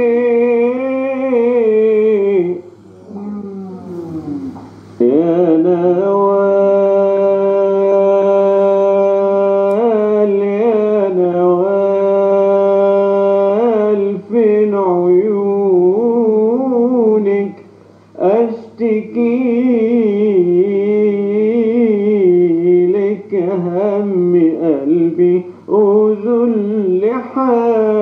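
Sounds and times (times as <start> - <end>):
man singing held notes: 0.0 - 28.0.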